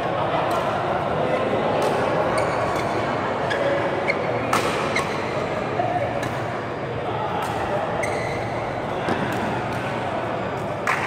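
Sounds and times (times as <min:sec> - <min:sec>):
indoor hall background noise: 0:00.0 - 0:11.0.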